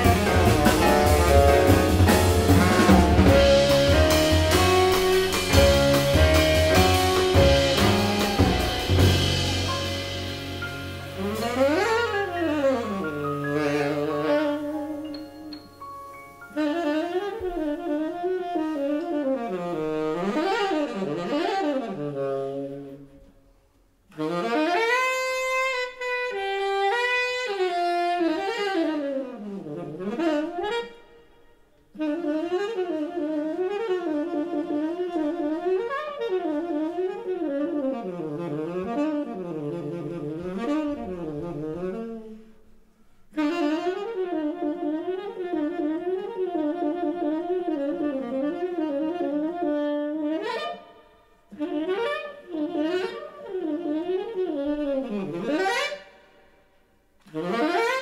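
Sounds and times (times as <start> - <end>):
tenor saxophone jazz solo: 0.0 - 58.0.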